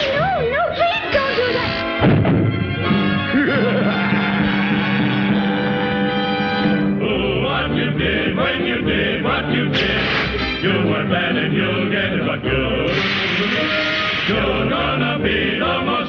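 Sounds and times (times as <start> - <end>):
cartoon score music: 0.0 - 16.0.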